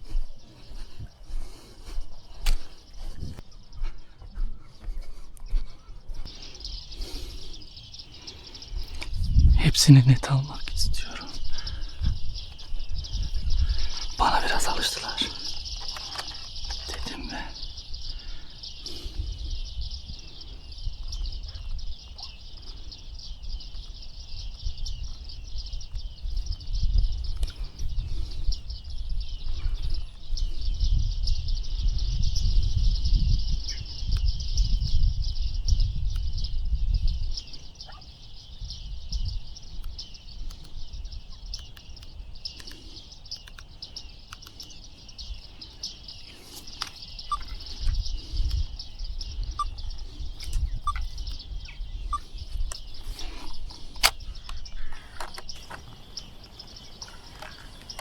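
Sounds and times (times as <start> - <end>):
birds chirping: 0.0 - 58.0
wind rumble on microphone: 0.0 - 58.0.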